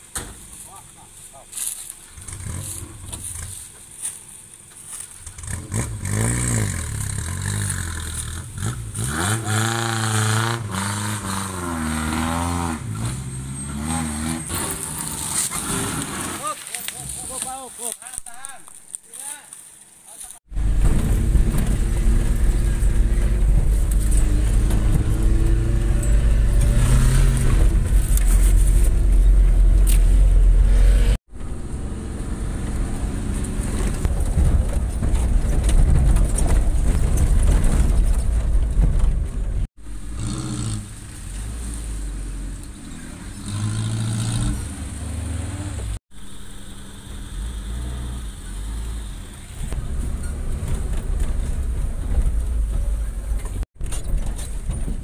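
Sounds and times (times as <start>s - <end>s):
car engine rumbling off-road: 0.0s - 17.5s, 20.4s - 55.0s.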